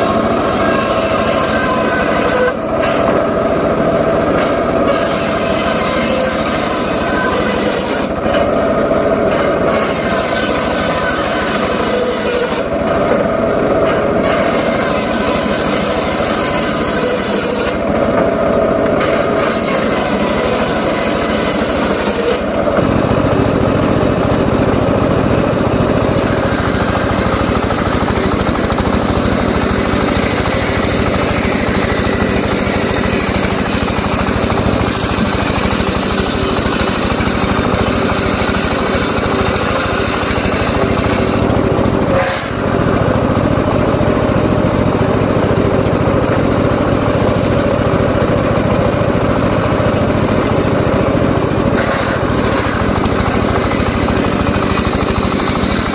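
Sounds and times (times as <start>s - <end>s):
circular saw running: 0.0s - 55.9s.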